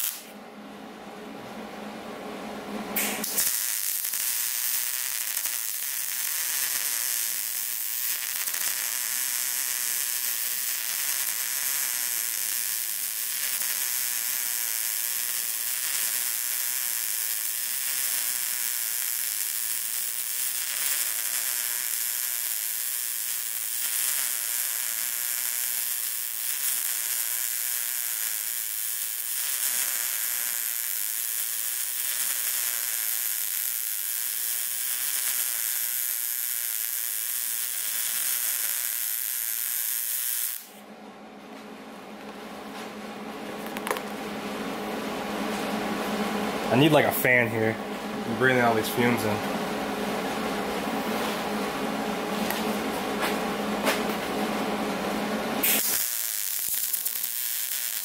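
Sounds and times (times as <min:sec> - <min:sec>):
welder arc crackling: 0:00.0 - 0:00.3, 0:03.0 - 0:40.8, 0:43.6 - 0:44.6, 0:45.5 - 0:54.4, 0:55.2 - 0:58.0.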